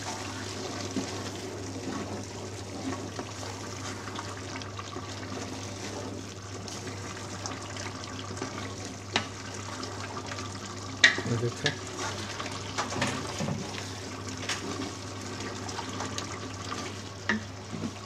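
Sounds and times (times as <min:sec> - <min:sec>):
masala bubbling and sizzling: 0:00.0 - 0:18.0.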